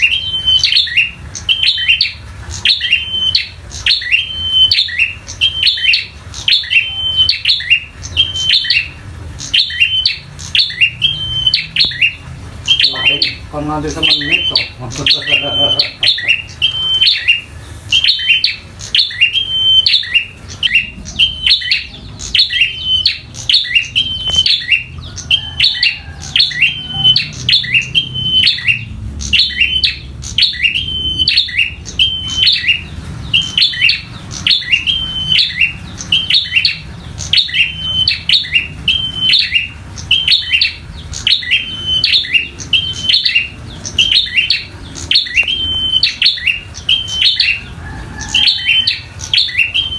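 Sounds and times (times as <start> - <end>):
bird giving sharp high chirps: 0.0 - 49.9.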